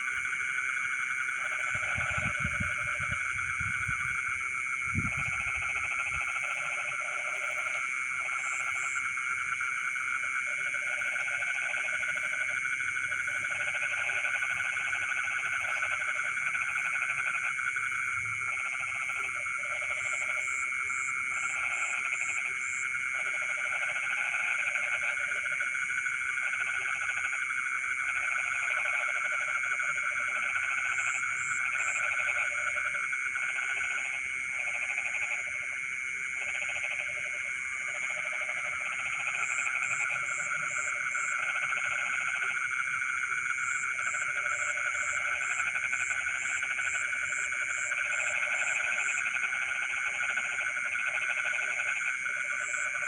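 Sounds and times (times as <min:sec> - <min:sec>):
frogs croaking: 0:00.0 - 0:53.0.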